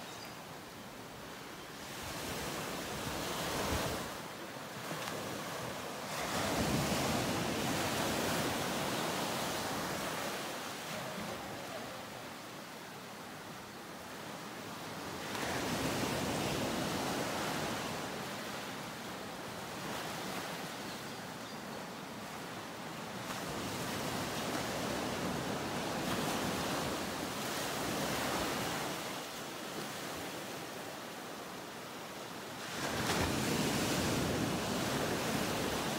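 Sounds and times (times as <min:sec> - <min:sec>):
ocean waves washing onto beach: 0:00.0 - 0:35.9.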